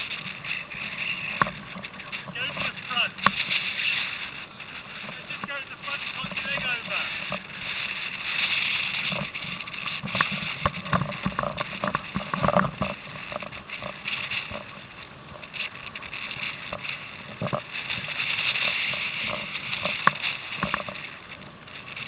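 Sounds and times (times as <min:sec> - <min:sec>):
water splashing around kayak: 0:00.0 - 0:22.0.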